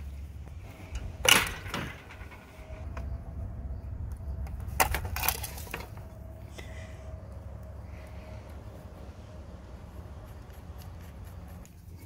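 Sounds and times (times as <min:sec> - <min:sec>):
low rumble: 0:00.0 - 0:11.7.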